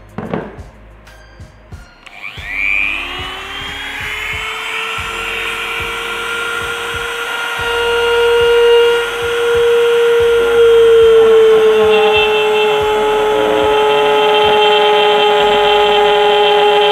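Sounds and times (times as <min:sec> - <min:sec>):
rotary tool whining: 0:02.0 - 0:16.9.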